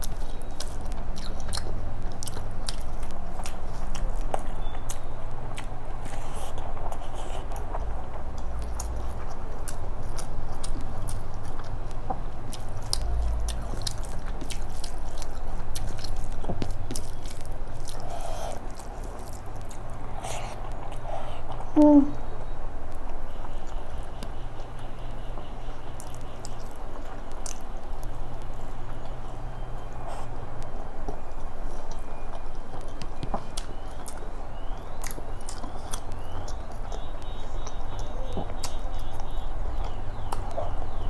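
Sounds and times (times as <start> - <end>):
close chewing with wet clicks: 0.0 - 41.0.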